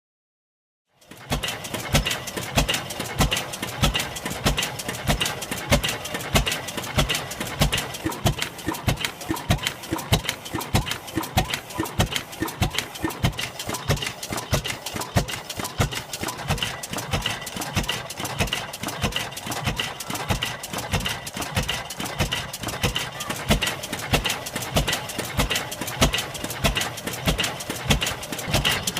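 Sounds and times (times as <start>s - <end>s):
old engine exhaust knocks: 1.0s - 28.9s.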